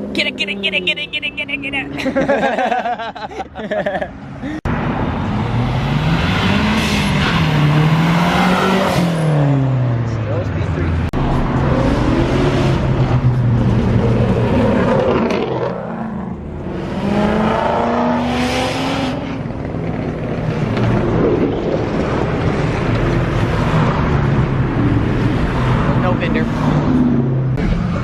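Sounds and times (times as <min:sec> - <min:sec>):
car engine at high revs: 0:04.9 - 0:28.0.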